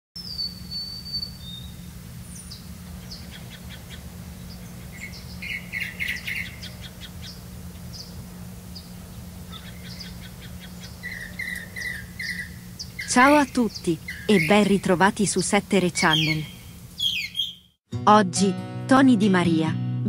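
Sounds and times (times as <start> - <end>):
steady low hum: 0.2 - 17.0
small birds chirping: 0.2 - 17.8.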